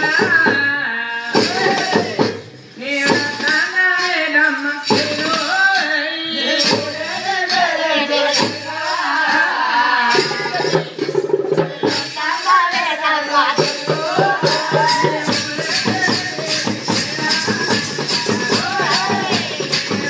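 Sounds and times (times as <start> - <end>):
person singing folk song: 0.0 - 20.0
metal hand cymbals clashing: 1.2 - 20.0.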